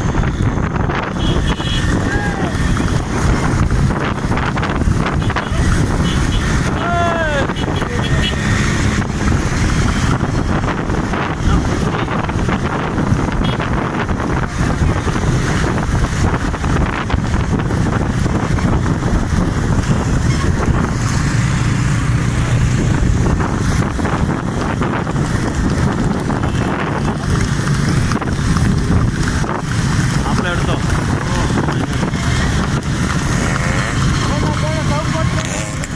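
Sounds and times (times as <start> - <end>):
motorcycle engines running: 0.0 - 35.9
wind buffeting microphone: 0.0 - 35.9.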